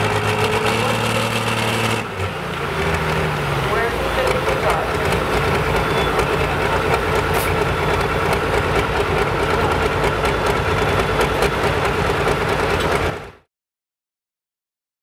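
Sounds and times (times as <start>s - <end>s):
tractor engine idling loudly: 0.0s - 13.5s.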